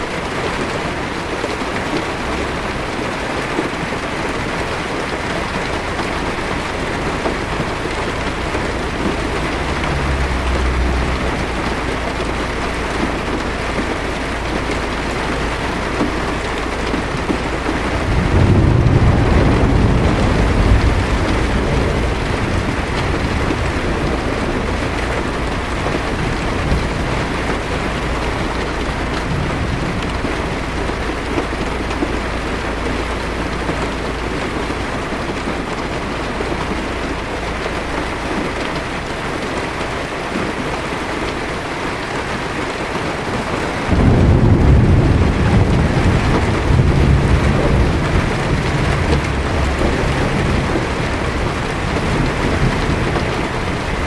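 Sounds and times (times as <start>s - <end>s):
heavy rain on car roof: 0.0s - 54.0s
thunder rumbling: 0.0s - 54.0s.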